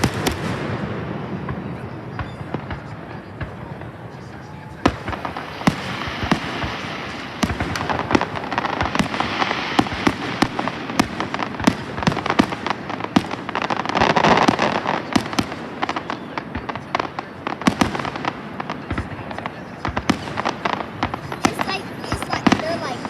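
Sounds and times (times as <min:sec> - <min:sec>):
fireworks crackling: 0:00.0 - 0:23.0
fireworks cracks and bangs: 0:00.0 - 0:23.0.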